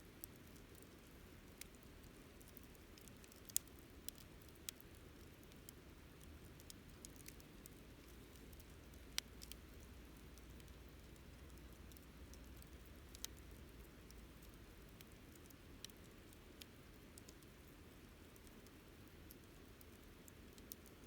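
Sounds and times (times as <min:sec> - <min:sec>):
wood fire crackling and popping: 0:00.2 - 0:21.0.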